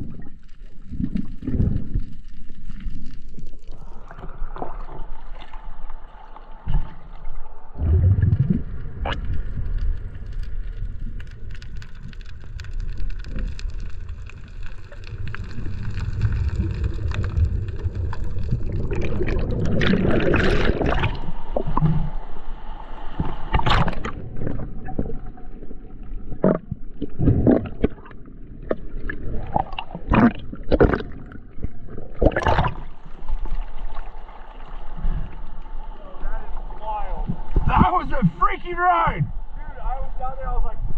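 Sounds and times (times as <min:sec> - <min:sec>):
underwater bubbling: 0:00.0 - 0:38.5
water sloshing and gurgling: 0:00.0 - 0:40.2.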